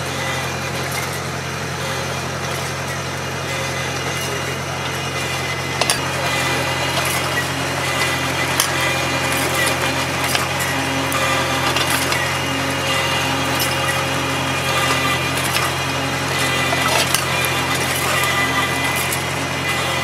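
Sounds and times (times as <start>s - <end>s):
cultivator working through soil: 0.0s - 20.0s
tractor engine running under load: 0.0s - 20.0s.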